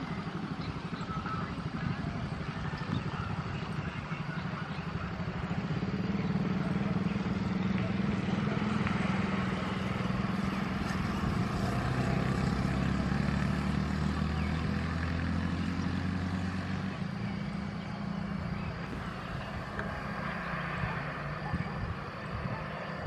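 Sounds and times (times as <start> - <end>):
low engine drone: 0.0 - 23.0.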